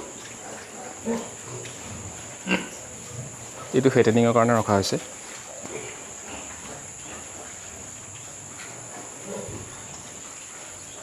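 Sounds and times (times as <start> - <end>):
pig grunting: 0.0 - 4.0, 5.1 - 11.0
insects chirring: 0.0 - 11.0.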